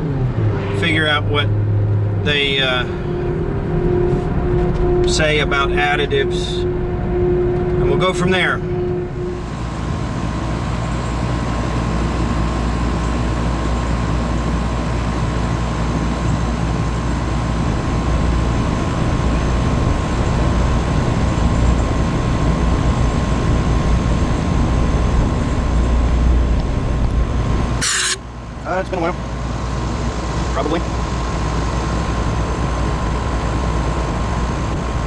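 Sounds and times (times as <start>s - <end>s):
machine running rumble: 0.0s - 35.0s
thin constant whine: 0.6s - 35.0s.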